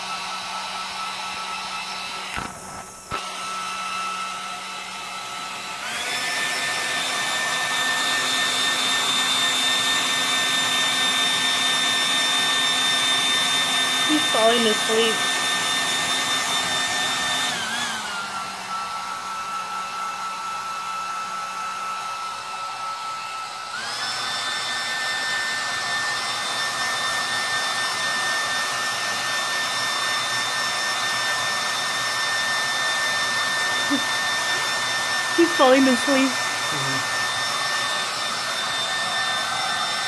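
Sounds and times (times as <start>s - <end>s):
hair dryer whining: 0.0s - 40.0s.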